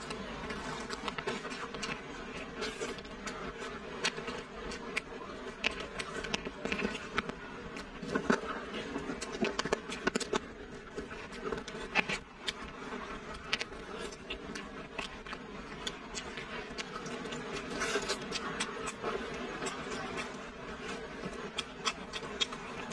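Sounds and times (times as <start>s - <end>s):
faint steady hum: 0.0s - 22.9s
person chewing food: 0.0s - 22.9s.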